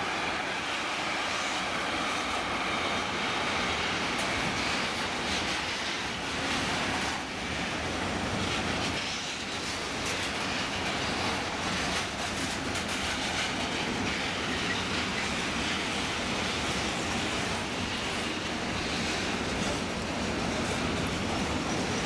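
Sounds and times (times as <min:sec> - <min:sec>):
train wheels clattering over rails: 0:00.0 - 0:22.0.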